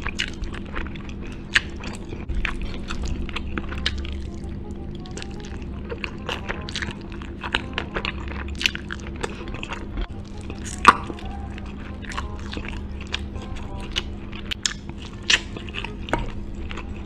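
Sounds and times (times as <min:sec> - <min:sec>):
chewing with wet smacks: 0:00.0 - 0:17.0.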